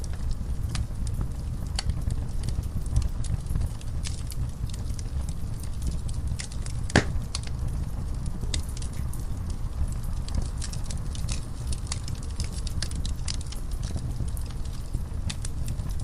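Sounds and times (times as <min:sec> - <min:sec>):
fire crackling and popping: 0:00.0 - 0:16.0
low rumble of flame: 0:00.0 - 0:16.0.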